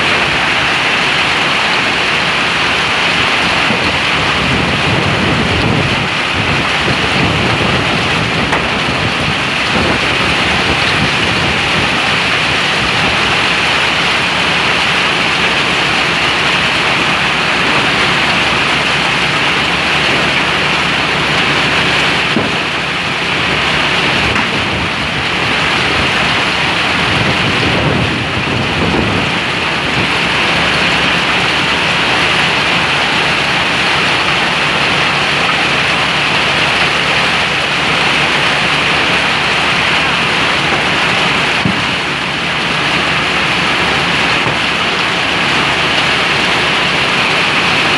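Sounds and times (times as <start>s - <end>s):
heavy hail and rain falling: 0.0s - 47.9s.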